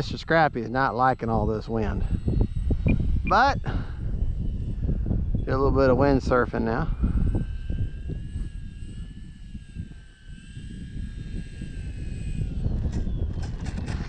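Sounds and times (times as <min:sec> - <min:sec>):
model plane motor whining: 0:00.0 - 0:14.0
wind rumble on microphone: 0:00.0 - 0:14.0.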